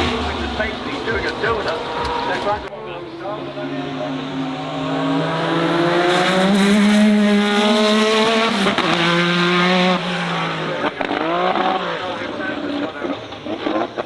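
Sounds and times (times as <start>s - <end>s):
car engine revving high: 0.0s - 2.7s, 3.7s - 14.0s.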